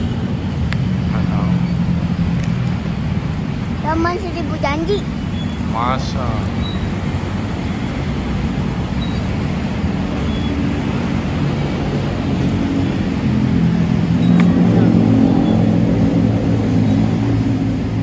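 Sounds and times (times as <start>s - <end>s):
road traffic rumble: 0.0s - 18.0s
vehicle engine passing: 0.0s - 18.0s.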